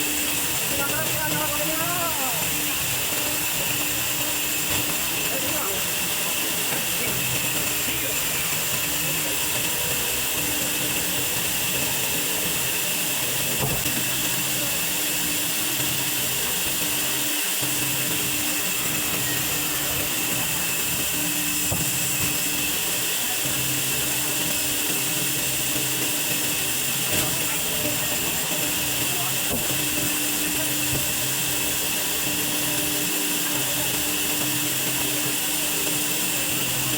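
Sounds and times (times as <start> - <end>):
band saw cutting log: 2.4 - 36.9.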